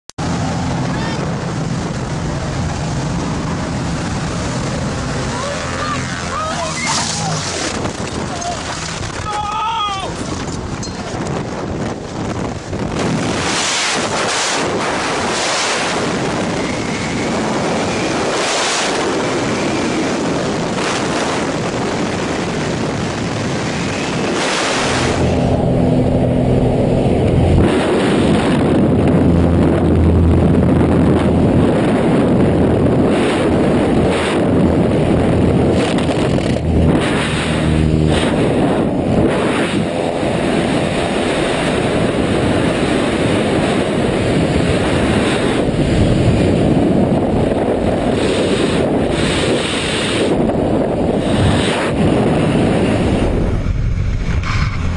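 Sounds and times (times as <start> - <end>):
propeller engine droning: 0.1 - 54.9
wind rushing over microphone: 0.2 - 54.9.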